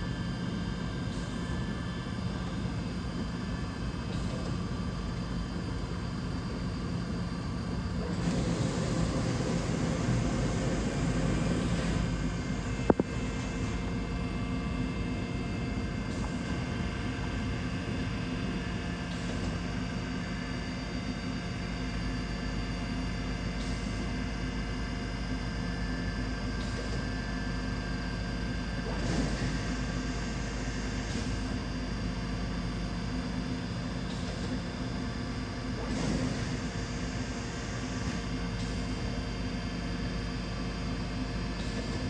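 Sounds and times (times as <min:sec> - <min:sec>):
machining centre humming and whining: 0:00.0 - 0:42.0.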